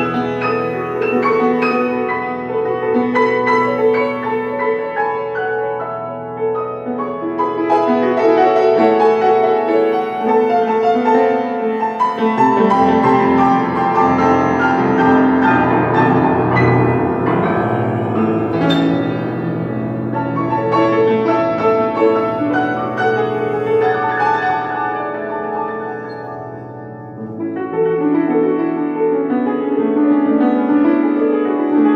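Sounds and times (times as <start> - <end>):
slow piano piece: 0.0 - 31.9.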